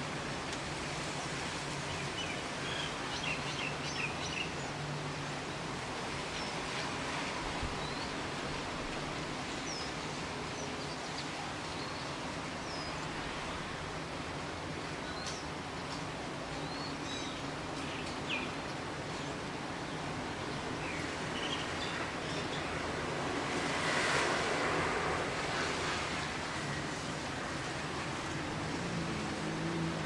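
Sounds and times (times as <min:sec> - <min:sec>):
light drizzle hissing: 0:00.0 - 0:30.0.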